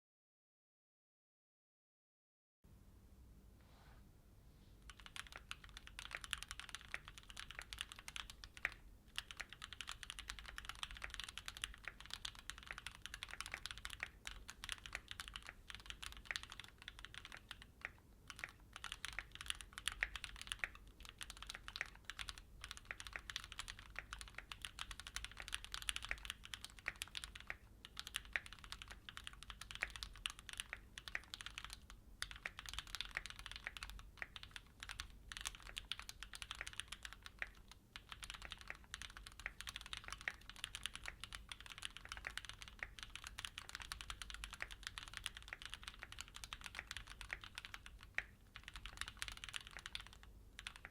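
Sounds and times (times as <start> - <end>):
fast typing on mechanical keyboard: 4.9 - 50.9.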